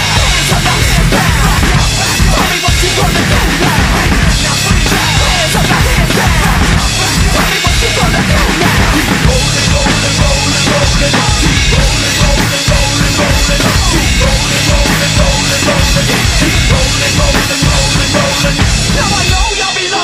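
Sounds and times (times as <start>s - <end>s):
drum kit rock beat: 0.0s - 20.0s
metal backing track: 0.0s - 20.0s.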